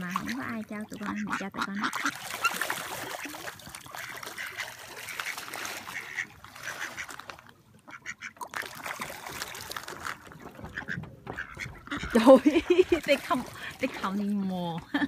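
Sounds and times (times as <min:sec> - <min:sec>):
ducks quacking: 0:00.0 - 0:07.2, 0:07.8 - 0:08.7, 0:10.2 - 0:14.9
ducks splashing in water: 0:00.0 - 0:15.0.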